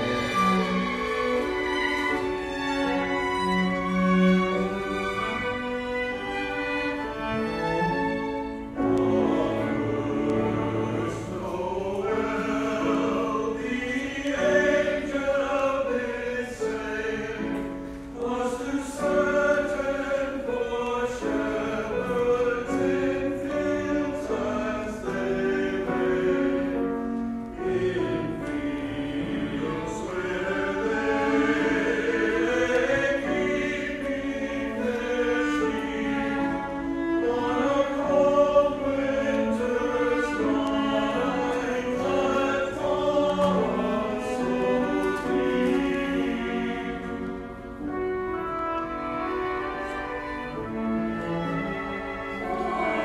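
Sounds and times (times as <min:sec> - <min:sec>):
mixed choir singing: 0:00.0 - 0:53.0.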